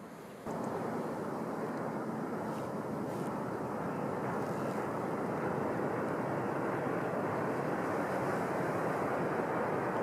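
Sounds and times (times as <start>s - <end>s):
distant vehicle rumble: 0.0s - 10.0s.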